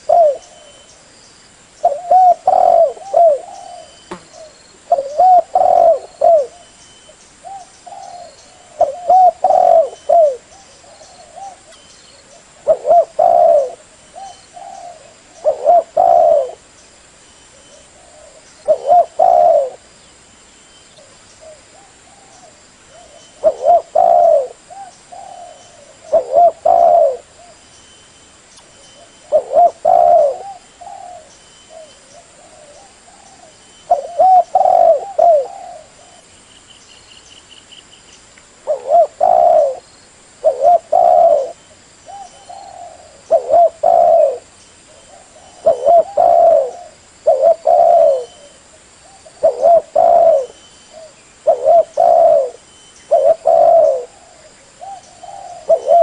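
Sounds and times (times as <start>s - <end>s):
dove cooing: 0.0s - 0.9s, 1.8s - 6.8s, 7.4s - 16.7s, 17.5s - 19.9s, 21.0s - 27.6s, 29.0s - 36.3s, 38.6s - 39.8s, 40.4s - 56.0s.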